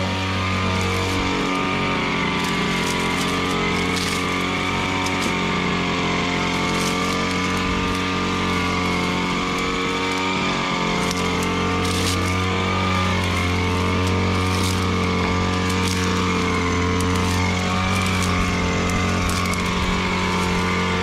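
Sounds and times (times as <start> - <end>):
small engine running steadily: 0.0 - 21.0.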